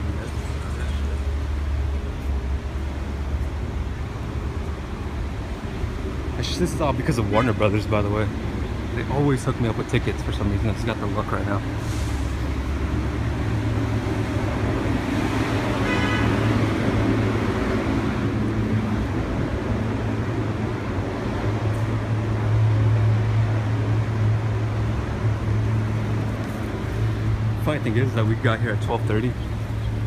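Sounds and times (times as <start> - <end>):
street traffic engine hum: 0.0 - 30.0.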